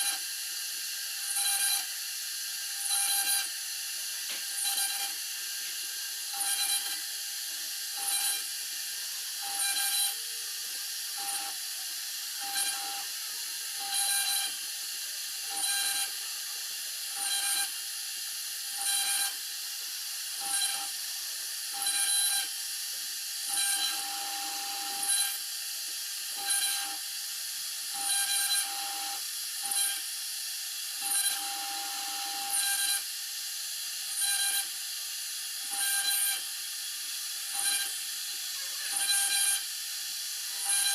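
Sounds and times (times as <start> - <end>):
router bit cutting board: 0.0 - 40.9
router spindle whine: 0.0 - 40.9.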